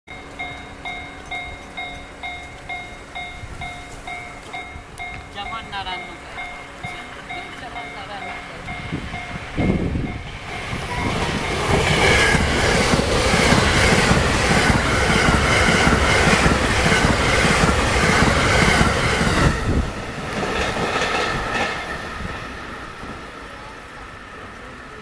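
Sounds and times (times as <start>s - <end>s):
train passing at high speed: 0.1s - 25.0s.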